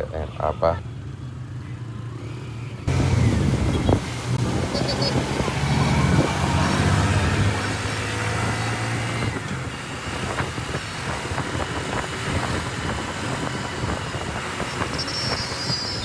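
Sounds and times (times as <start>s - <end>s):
engine hum: 0.0s - 16.0s
road noise with knocks and rattles: 0.0s - 16.0s.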